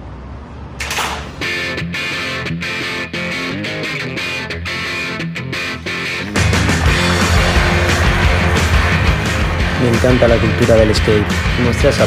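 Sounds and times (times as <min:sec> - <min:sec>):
guitar music: 0:01.3 - 0:12.0.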